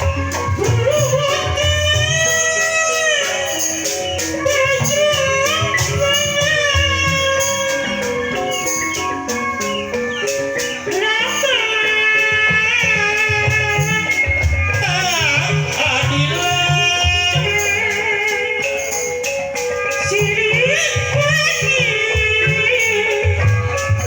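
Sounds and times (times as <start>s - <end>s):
drumming: 0.0s - 24.0s
high sliding melody: 0.0s - 24.0s.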